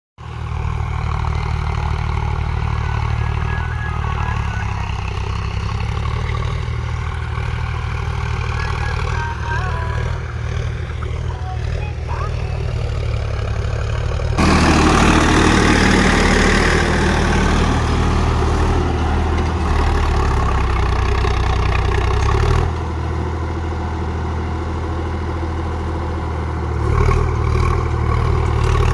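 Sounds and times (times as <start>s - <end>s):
tractor diesel engine running: 0.2s - 28.9s.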